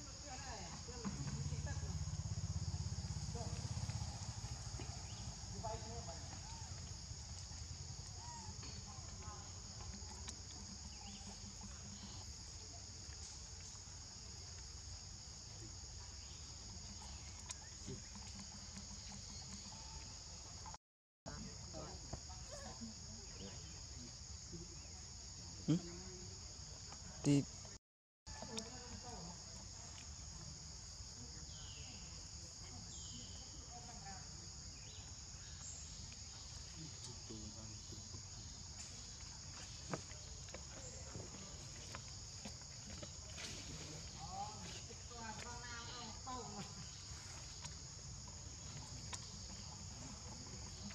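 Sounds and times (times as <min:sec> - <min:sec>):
insect chorus drone: 0:00.0 - 0:50.9.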